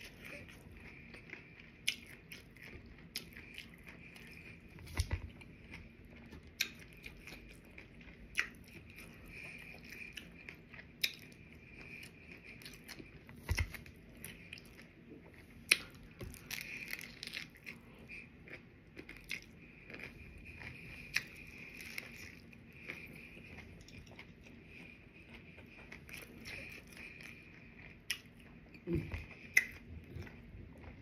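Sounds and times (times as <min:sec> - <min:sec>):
person chewing crunchy taco: 0:00.0 - 0:31.0.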